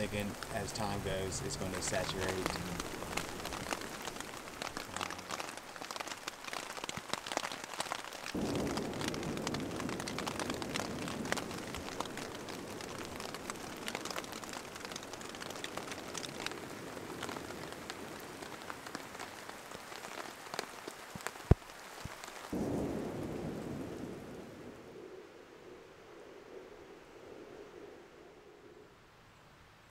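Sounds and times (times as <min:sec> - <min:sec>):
rain pattering on a tent: 0:00.0 - 0:28.2.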